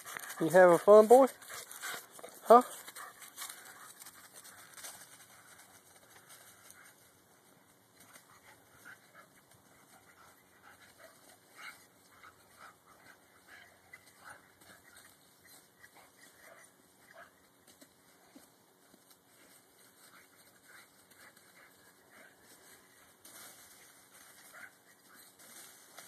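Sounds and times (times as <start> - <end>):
dogs rustling in dry leaves: 0.0 - 12.6, 13.4 - 26.0.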